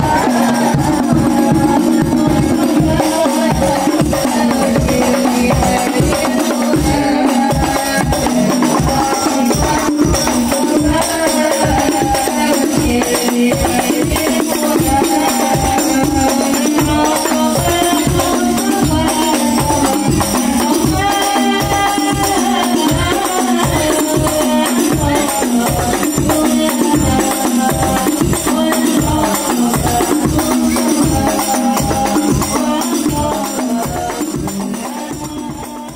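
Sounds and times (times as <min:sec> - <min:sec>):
boys singing through microphones: 0:00.0 - 0:35.9
frame drums beating: 0:00.0 - 0:35.9.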